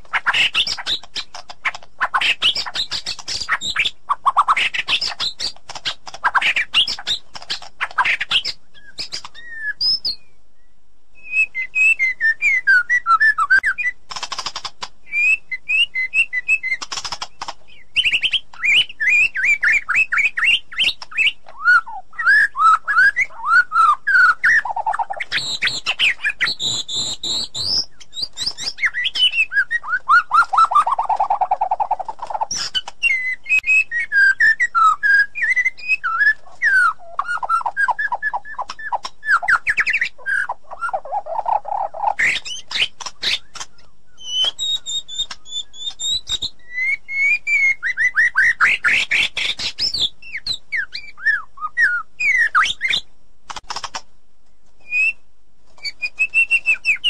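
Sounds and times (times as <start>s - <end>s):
bird singing whistled notes and trills: 0.0s - 53.1s, 54.8s - 57.0s.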